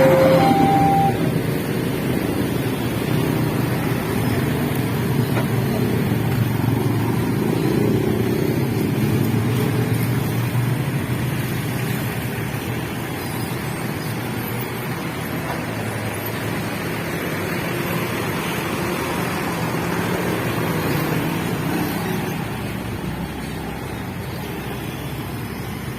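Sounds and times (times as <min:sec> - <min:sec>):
vehicles passing: 0:00.0 - 0:25.9.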